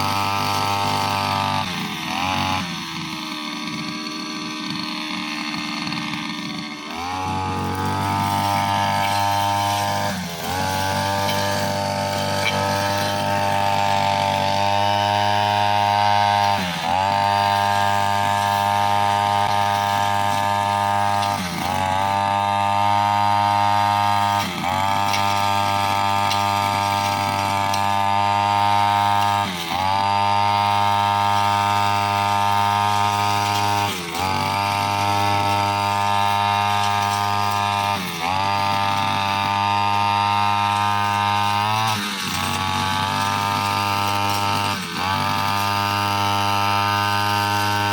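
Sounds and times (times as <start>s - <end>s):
brushcutter engine cutting: 0.0s - 47.9s.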